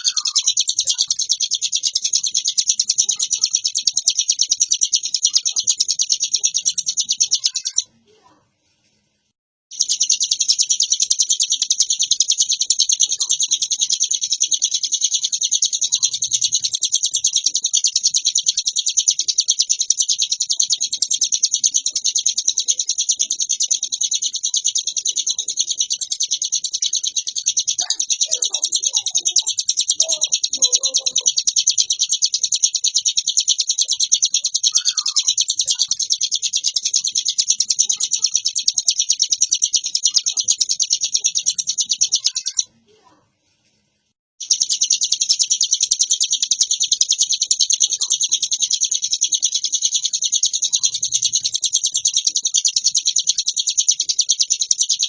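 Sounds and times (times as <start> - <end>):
bird trilling: 0.0 - 8.0, 9.7 - 43.1, 44.4 - 55.0.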